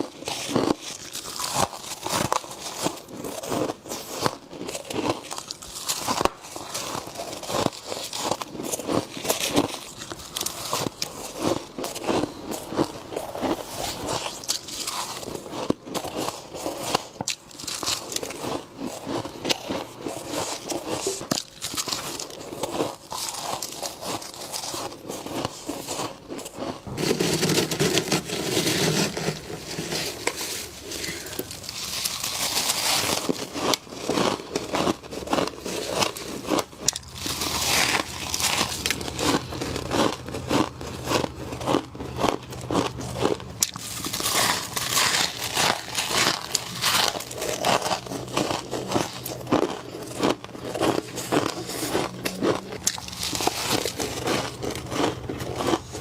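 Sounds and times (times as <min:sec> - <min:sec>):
frost being chewed: 0:00.0 - 0:56.0.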